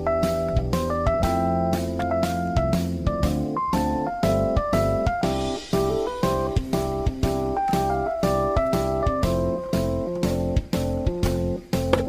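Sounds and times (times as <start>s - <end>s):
plucked guitar-like notes: 0.0s - 12.0s
steady drum beat: 0.0s - 12.0s.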